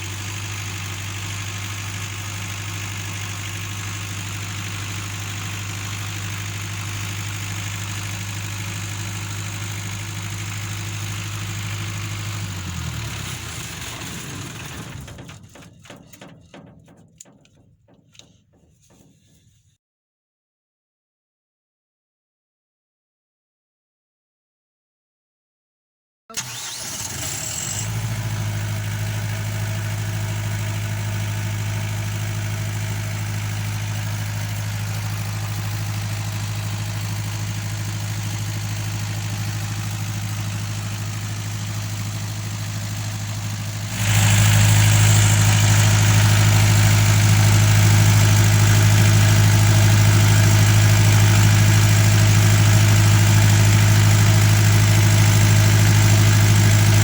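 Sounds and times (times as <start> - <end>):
diesel generator engine running: 0.0 - 19.6, 26.3 - 57.0.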